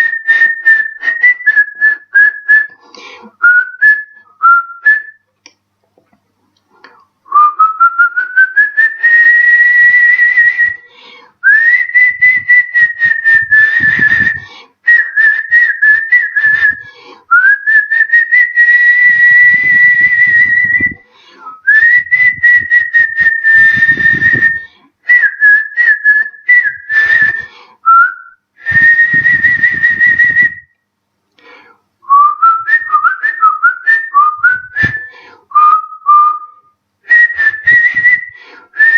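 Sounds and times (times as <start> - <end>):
man whistling: 0.0 - 2.8, 3.4 - 5.3, 7.3 - 30.8, 32.0 - 38.9.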